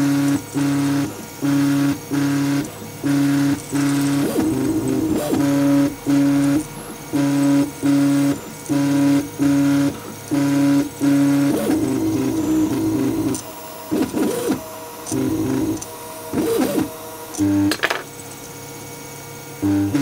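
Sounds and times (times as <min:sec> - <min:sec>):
stepper motors humming: 0:00.0 - 0:18.4.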